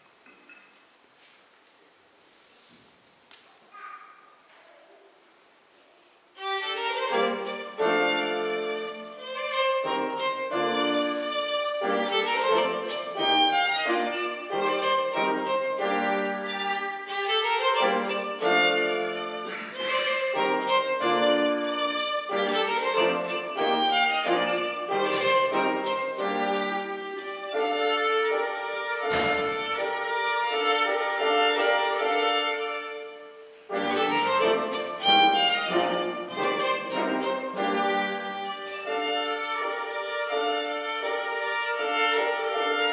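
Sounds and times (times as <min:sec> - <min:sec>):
piano trio chamber music: 0:06.4 - 0:42.9.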